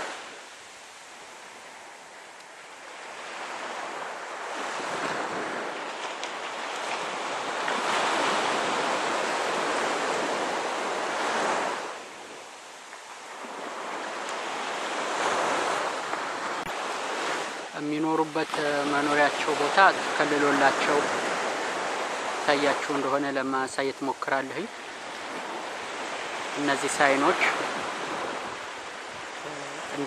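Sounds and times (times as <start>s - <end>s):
surf washing onto beach: 0.0s - 30.0s.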